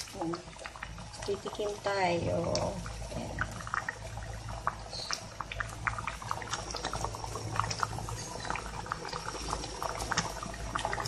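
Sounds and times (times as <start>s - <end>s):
thick stew bubbling: 0.0s - 11.0s.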